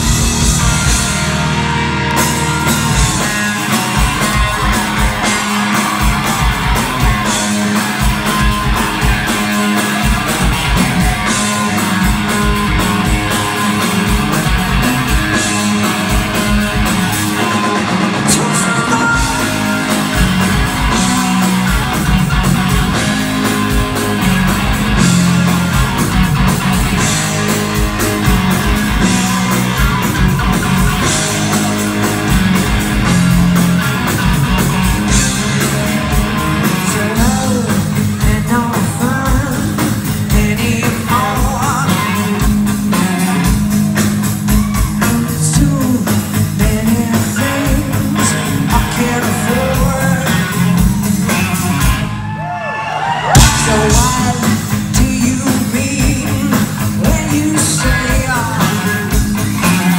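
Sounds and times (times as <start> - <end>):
bass guitar: 0.0 - 59.9
drums: 0.0 - 59.9
electric guitars: 0.0 - 59.9.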